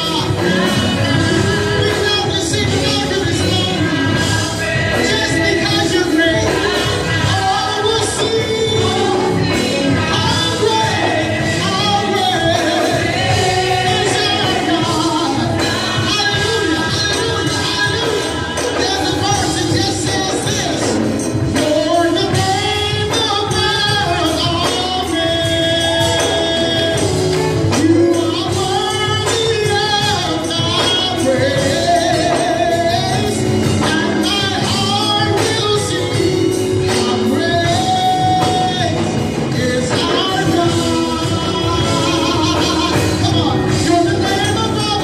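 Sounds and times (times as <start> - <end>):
band with percussive beat: 0.0 - 45.0
gospel singers: 0.0 - 45.0.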